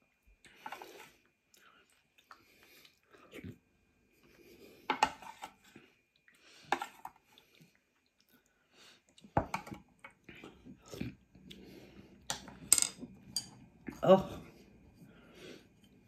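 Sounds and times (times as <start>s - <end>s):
person chewing food: 0.3s - 14.0s.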